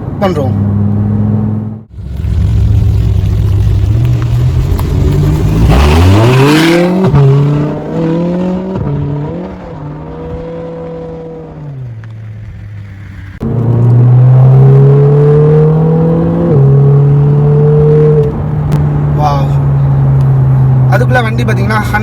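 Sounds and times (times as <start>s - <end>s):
sports car engine accelerating hard: 0.6s - 22.0s.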